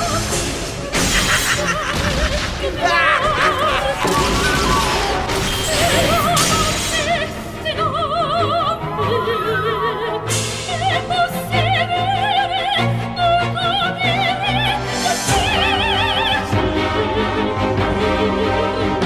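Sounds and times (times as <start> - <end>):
orchestral accompaniment: 0.0 - 19.0
operatic singing with vibrato: 2.5 - 19.0.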